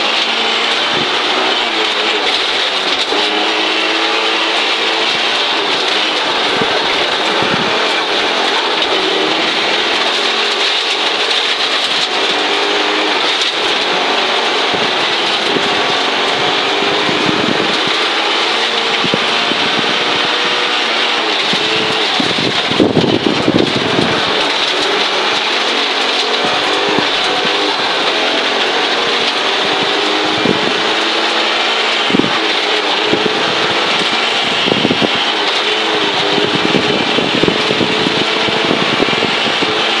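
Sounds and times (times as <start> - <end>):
gravel spraying against underbody: 0.0 - 40.0
rally car engine revving: 0.0 - 40.0.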